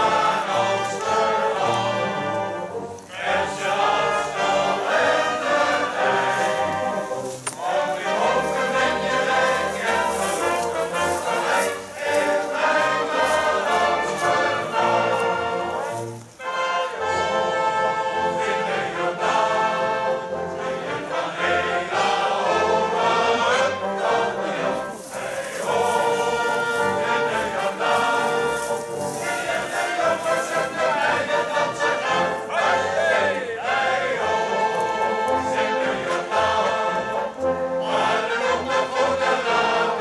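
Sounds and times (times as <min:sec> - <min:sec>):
brass wind band: 0:00.0 - 0:40.0
men's choir singing in harmony: 0:00.0 - 0:40.0.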